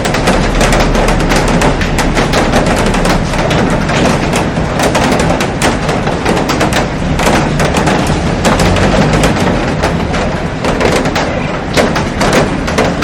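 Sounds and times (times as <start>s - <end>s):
heavy rain on glass roof: 0.0s - 13.0s.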